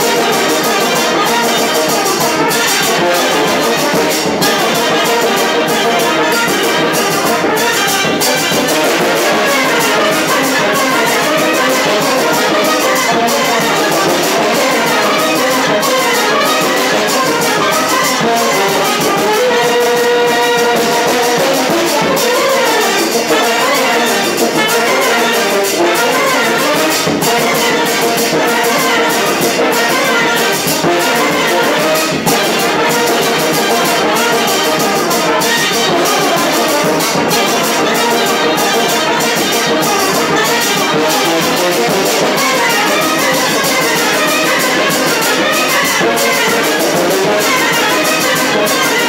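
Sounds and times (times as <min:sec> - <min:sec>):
trumpets and brass horns: 0:00.0 - 0:49.0.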